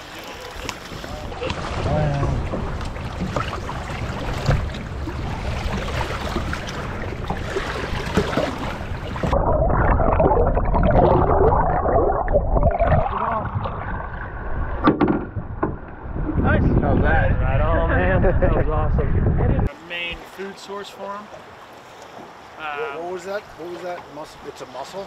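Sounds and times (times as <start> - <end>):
water splashing against boat: 0.0 - 17.1, 20.0 - 25.0
underwater bubbling and sloshing: 0.0 - 19.8, 21.2 - 25.0
wind: 0.0 - 25.0.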